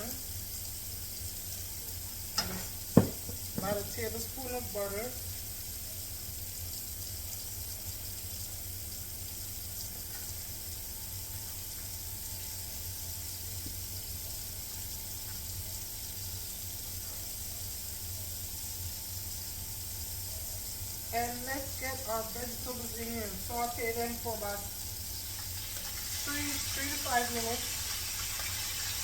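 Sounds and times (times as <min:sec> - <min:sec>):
butter sizzling in a skillet: 0:00.0 - 0:29.0.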